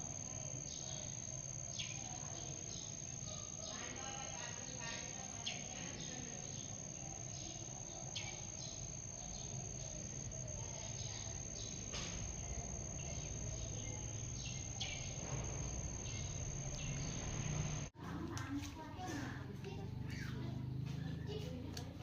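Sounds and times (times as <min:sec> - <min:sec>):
insect rasping chirps: 0:00.0 - 0:18.0
insect high-pitched trill: 0:00.0 - 0:18.1.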